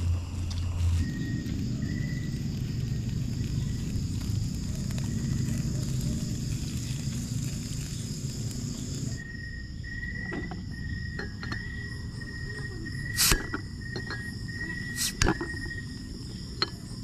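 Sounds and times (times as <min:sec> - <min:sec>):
insects trilling: 0:00.0 - 0:17.0
low rumble: 0:00.0 - 0:17.0.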